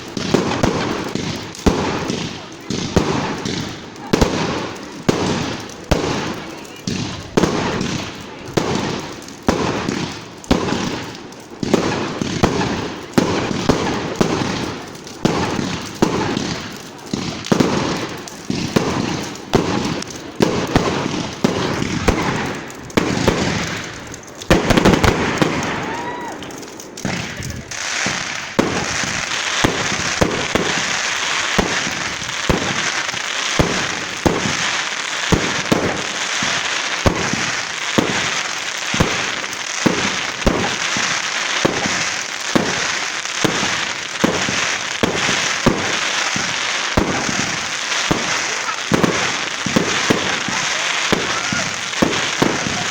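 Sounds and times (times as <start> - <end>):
fireworks banging and crackling: 0.0 - 52.9.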